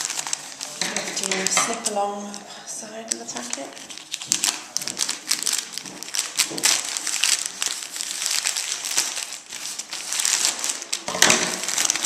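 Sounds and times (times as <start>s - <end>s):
scissors cutting plastic: 0.0s - 2.4s, 3.1s - 12.0s
plastic bag crinkling: 0.0s - 12.0s.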